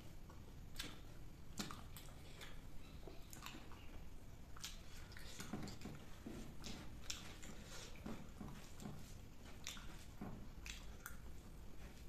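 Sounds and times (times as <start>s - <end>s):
mouth-closed chewing: 0.2s - 12.0s.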